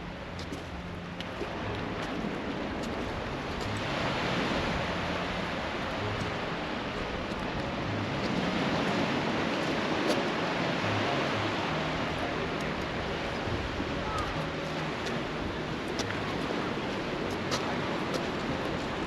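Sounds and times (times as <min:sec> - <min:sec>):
sea waves washing onto shore: 0:00.0 - 0:19.0.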